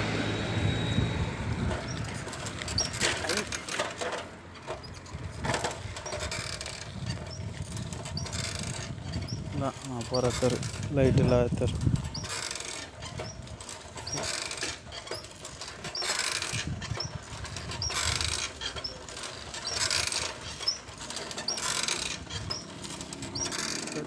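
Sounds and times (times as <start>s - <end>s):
bicycle swishing: 0.1s - 24.0s
bicycle parts squeaking: 0.6s - 24.0s.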